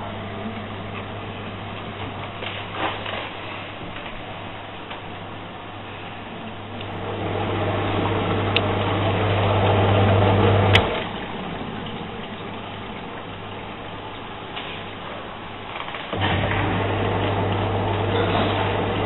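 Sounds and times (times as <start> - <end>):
dishwasher pump motor humming: 0.0 - 19.0
water swishing: 0.0 - 19.0.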